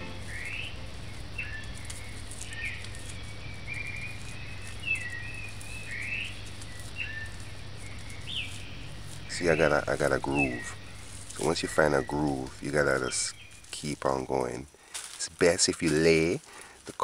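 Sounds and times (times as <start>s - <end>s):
steady low hum: 0.0s - 16.1s
small birds chirping: 0.0s - 17.0s.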